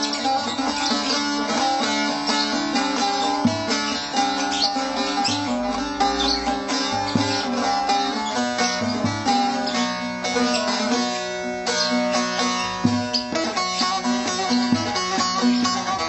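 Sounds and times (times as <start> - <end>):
plucked lute melody with drone: 0.0 - 16.0.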